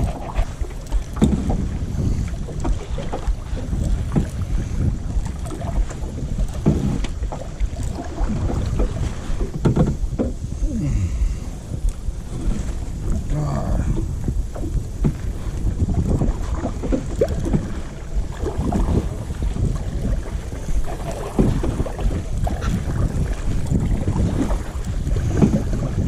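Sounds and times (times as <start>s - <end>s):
paddle strokes swishing through water: 0.0s - 26.0s
water splashing against hull: 0.0s - 26.0s
wind rumble on microphone: 0.0s - 26.0s.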